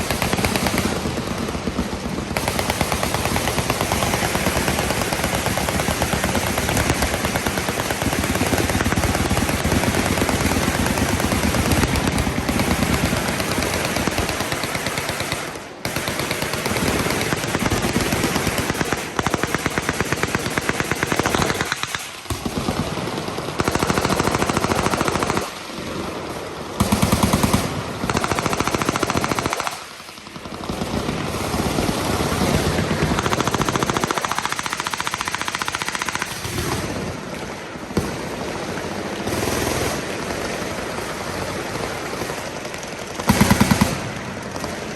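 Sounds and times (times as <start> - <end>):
machine guns firing automatic: 0.0 - 44.9.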